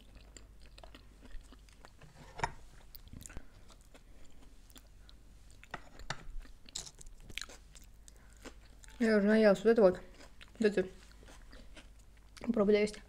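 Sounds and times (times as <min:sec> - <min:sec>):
person chewing: 0:00.0 - 0:09.1, 0:10.0 - 0:12.6.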